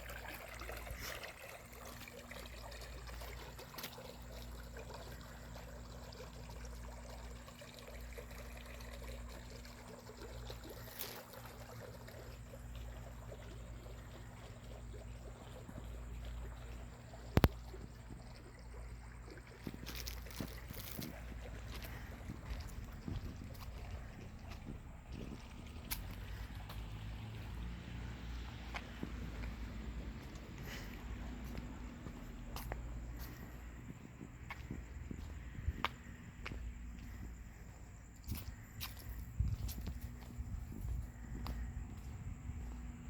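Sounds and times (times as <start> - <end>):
floodwater flowing: 0.0 - 43.0.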